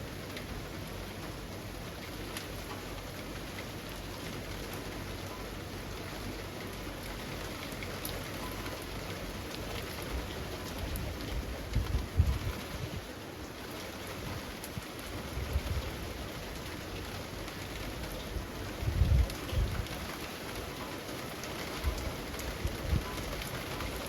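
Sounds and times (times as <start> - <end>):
rain falling among trees: 0.0 - 24.0.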